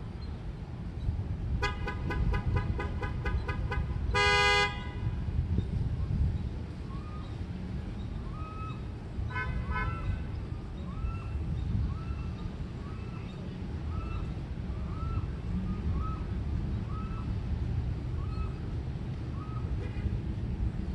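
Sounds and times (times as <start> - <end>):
traffic rumble: 0.0 - 20.9.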